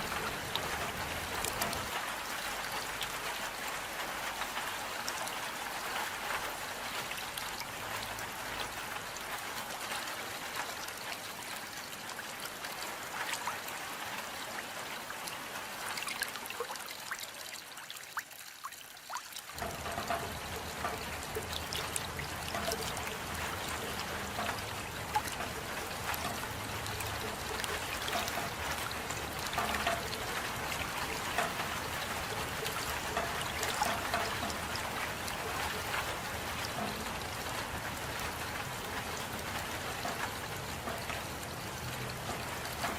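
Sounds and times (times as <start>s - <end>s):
steady rain: 0.0s - 42.9s
water dripping and trickling: 0.0s - 42.9s.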